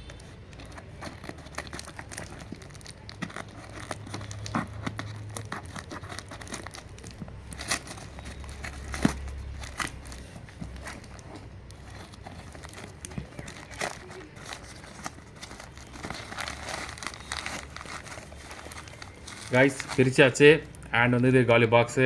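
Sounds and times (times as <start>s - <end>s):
packaging crinkling and tearing: 0.0s - 20.8s.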